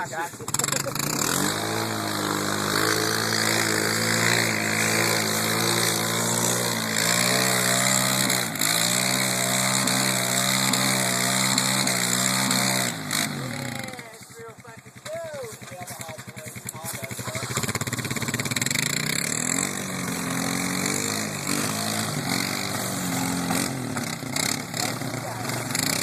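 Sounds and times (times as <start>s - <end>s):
atv engine running hard: 0.0s - 26.0s.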